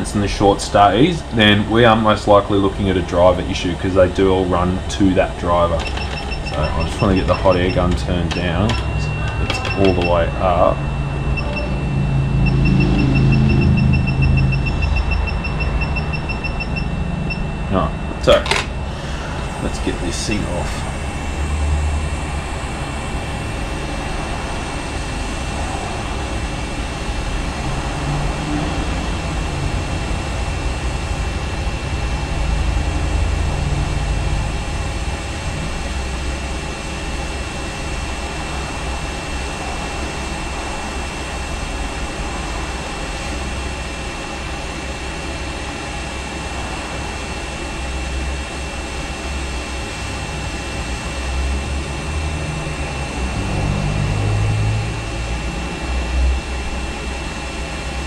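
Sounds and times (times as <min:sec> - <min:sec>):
thin high whine: 0:00.0 - 0:58.0.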